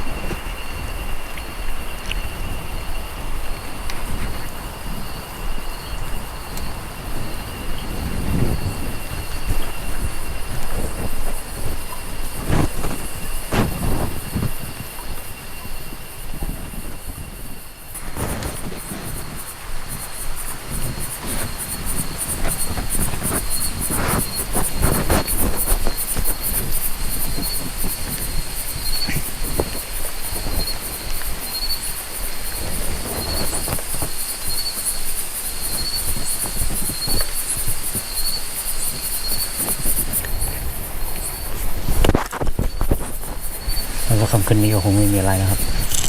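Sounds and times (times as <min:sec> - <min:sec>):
crickets trilling: 0:00.0 - 0:46.0
insect chirping in short pulses: 0:00.0 - 0:46.0.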